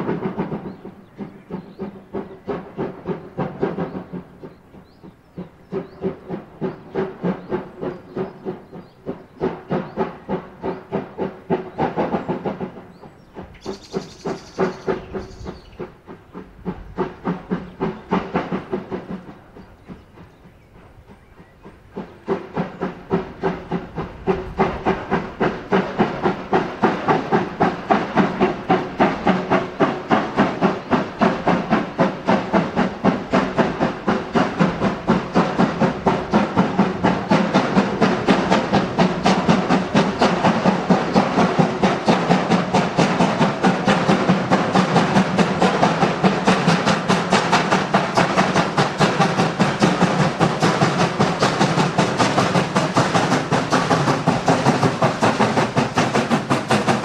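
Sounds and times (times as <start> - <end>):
train running rhythmic beat: 0.0 - 57.0.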